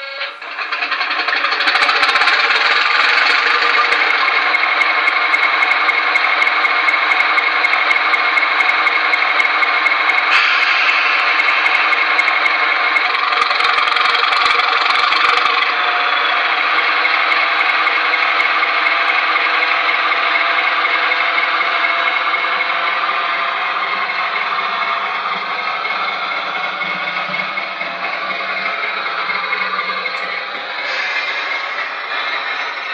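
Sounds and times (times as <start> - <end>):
model diesel engine sound: 0.0 - 32.9.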